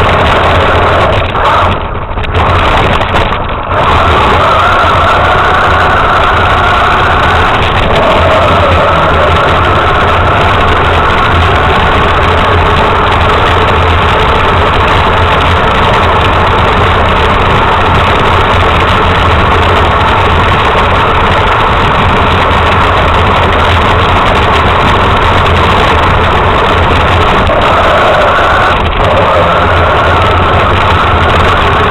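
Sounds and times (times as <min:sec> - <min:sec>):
model truck engine drone: 0:00.0 - 0:31.9.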